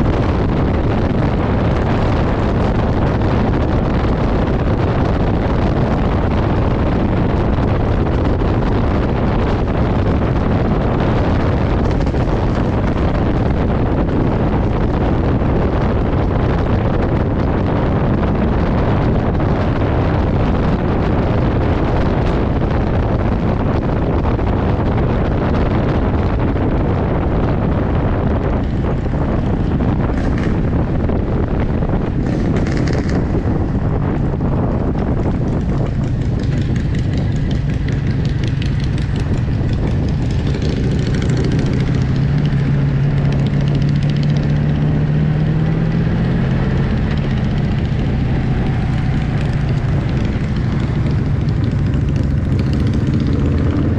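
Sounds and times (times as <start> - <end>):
vehicle road and engine noise: 0.0 - 53.9
wind rushing over microphone: 0.0 - 53.9.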